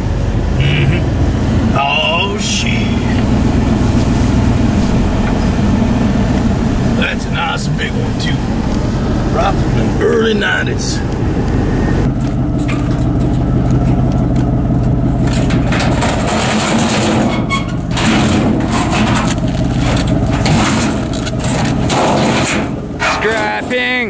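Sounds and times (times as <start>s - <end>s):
truck engine knocking: 0.0s - 24.0s.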